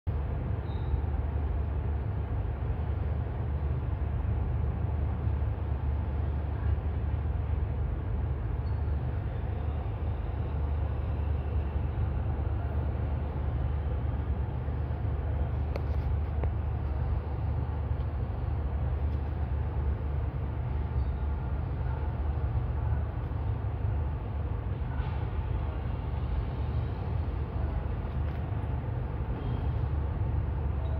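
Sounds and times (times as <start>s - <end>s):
low outdoor rumble: 0.1s - 30.9s.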